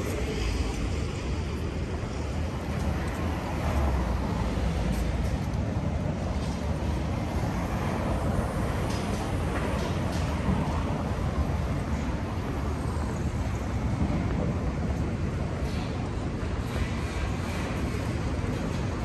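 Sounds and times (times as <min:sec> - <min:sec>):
city traffic hum: 0:00.0 - 0:19.0.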